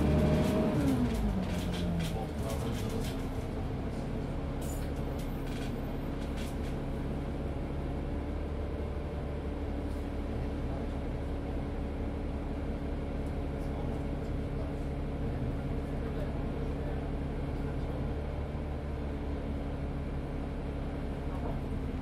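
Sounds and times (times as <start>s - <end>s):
bus engine humming: 0.0s - 22.0s.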